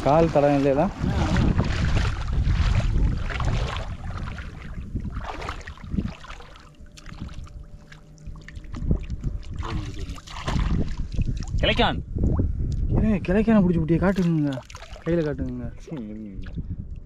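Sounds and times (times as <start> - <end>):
water splashing around legs: 0.0 - 11.6, 14.0 - 16.6
wind rumbling on microphone: 0.0 - 17.0.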